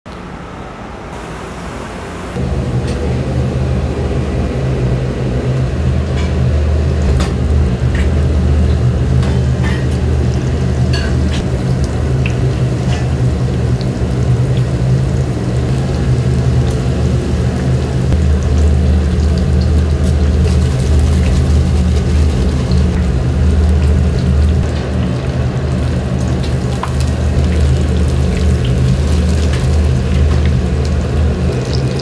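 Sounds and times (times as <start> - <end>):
low kitchen rumble: 1.1 - 32.0.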